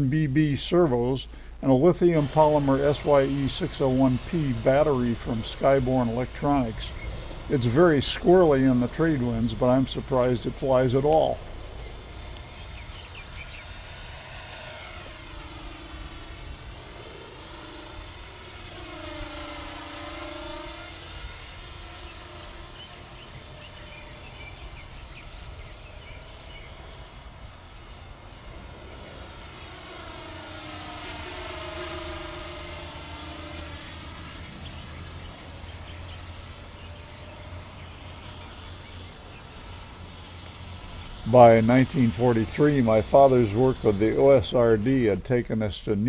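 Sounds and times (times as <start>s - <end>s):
low wind rumble: 0.0s - 46.0s
model aircraft motors whining: 0.0s - 46.0s.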